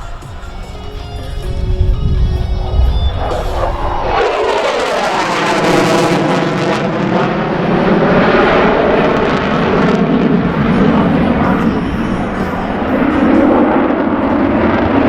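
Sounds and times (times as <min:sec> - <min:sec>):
jet engine passing: 0:00.0 - 0:15.0.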